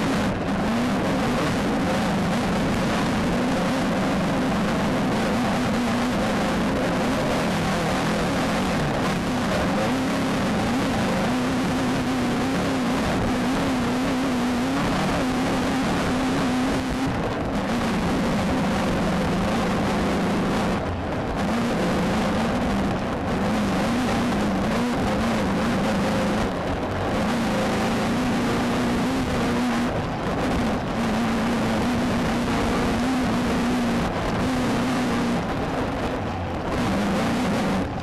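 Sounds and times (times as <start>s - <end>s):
car rattling on rough dirt: 0.0s - 38.0s
race car engine running hard: 0.0s - 38.0s
wind and terrain noise: 0.0s - 38.0s.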